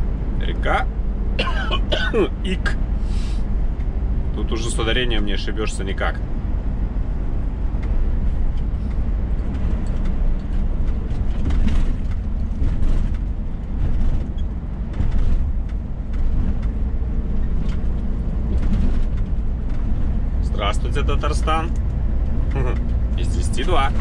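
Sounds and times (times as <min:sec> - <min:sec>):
truck engine and tyres droning: 0:00.0 - 0:24.0.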